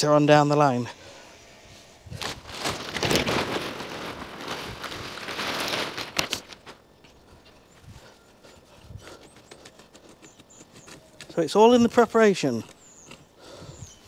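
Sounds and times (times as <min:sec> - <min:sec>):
soil rustling and scraping: 0:00.6 - 0:13.3.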